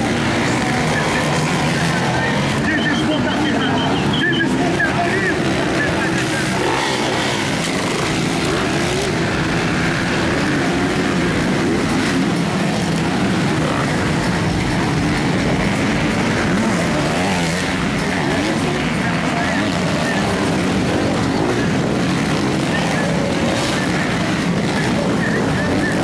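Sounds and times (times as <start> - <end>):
motocross bike engines racing: 0.0 - 26.0.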